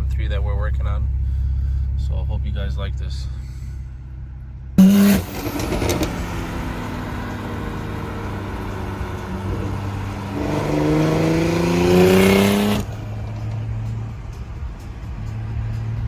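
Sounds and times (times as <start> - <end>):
car engine running and revving: 0.0 - 16.0.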